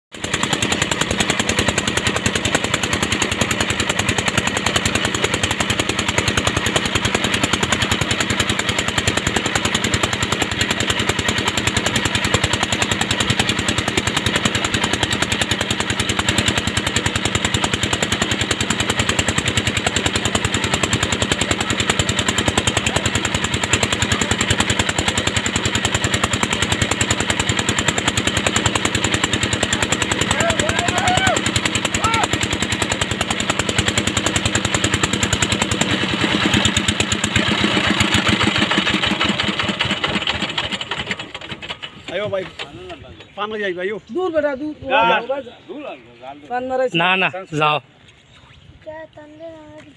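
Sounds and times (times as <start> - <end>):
motorboat engine running: 0.1 - 45.7.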